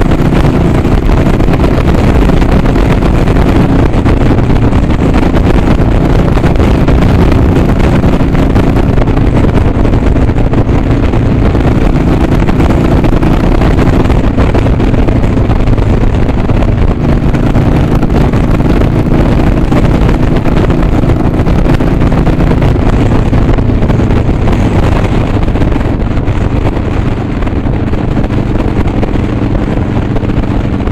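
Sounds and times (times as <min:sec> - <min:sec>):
motorcycle engine cruising: 0:00.0 - 0:30.9
wind on microphone: 0:00.0 - 0:30.9.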